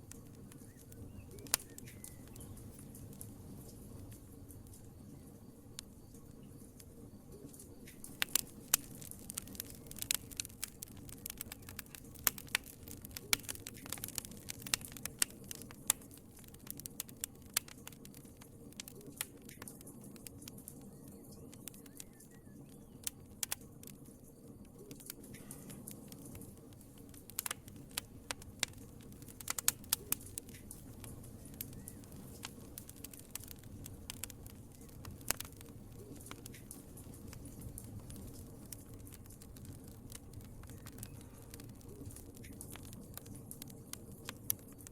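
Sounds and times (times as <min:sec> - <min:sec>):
fire crackling in fireplace: 0:00.0 - 0:44.9.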